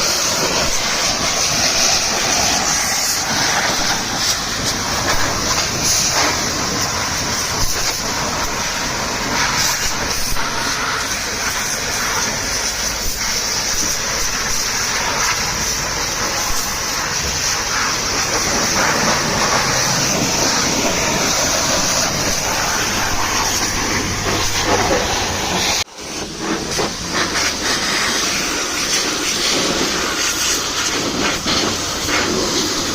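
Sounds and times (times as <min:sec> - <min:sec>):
pressure washer spraying: 0:00.0 - 0:32.9.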